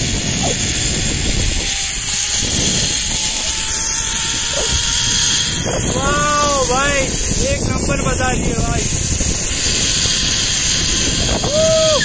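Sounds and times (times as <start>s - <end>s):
wind buffeting microphone: 0.0s - 12.0s
zip-line trolley whirring on cable: 0.0s - 12.0s.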